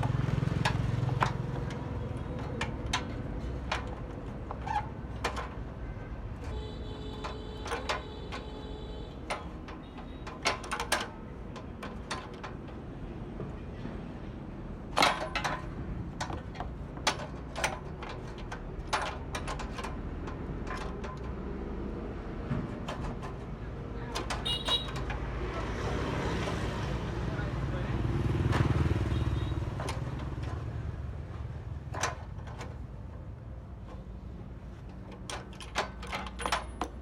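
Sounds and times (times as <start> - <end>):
hand tools clicking and knocking: 0.0 - 27.2, 28.1 - 37.0.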